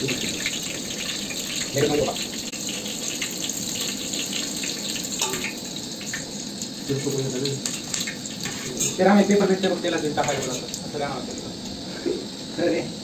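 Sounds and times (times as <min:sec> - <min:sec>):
chillies sizzling in hot oil: 0:00.0 - 0:12.8.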